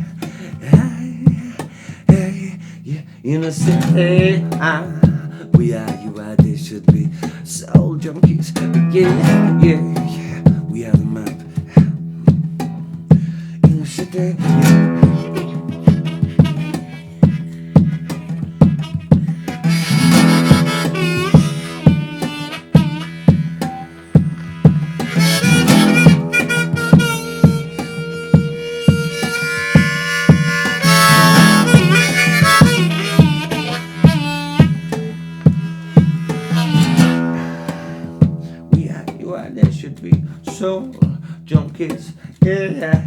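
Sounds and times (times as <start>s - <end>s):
harmonica melody: 0.0s - 40.9s
strummed acoustic guitar: 0.0s - 43.0s
sharp percussive beat: 3.6s - 43.0s.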